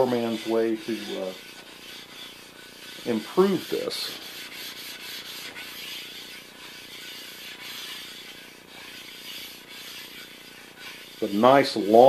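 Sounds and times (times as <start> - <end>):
stone scraping on cast iron: 0.0 - 12.0.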